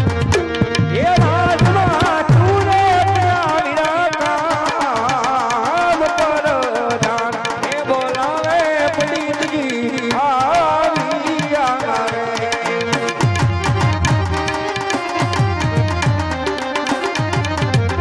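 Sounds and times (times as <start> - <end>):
man singing through loudspeakers: 0.0 - 18.0
tabla drumming: 0.0 - 18.0.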